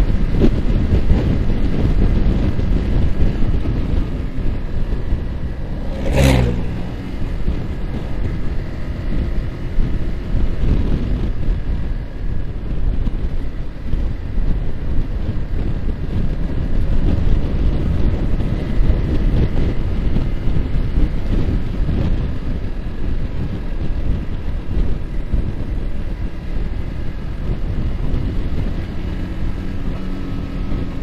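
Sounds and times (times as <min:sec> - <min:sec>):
motorcycle engine cruising: 0:00.0 - 0:31.0
wind rush on microphone: 0:00.0 - 0:31.0.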